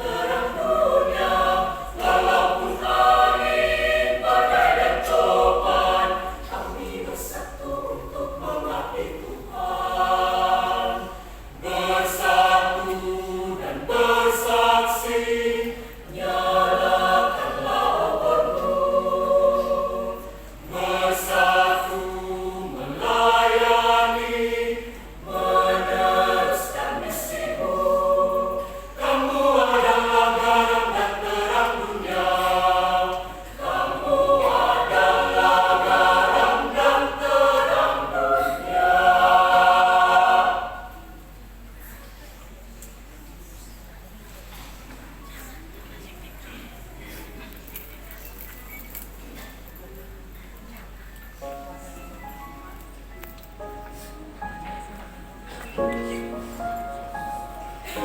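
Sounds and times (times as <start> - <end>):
church choir singing: 0.0 - 41.7, 51.4 - 58.0.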